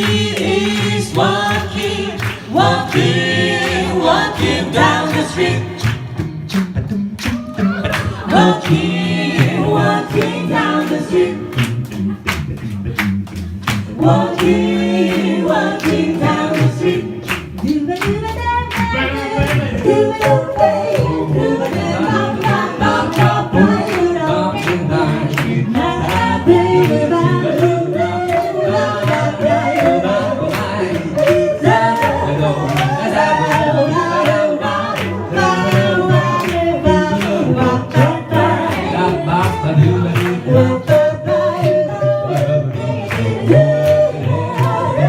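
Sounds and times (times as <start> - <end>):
vocal group singing in harmony: 0.0 - 45.0.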